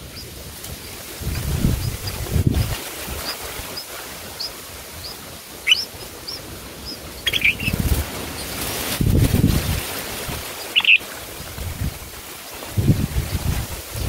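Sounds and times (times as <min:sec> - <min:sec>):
bulbuls chirping: 0:00.0 - 0:13.4.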